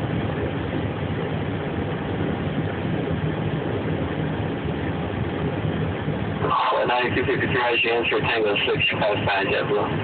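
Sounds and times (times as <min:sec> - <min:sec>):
cockpit low rumble with hiss: 0:00.0 - 0:10.0.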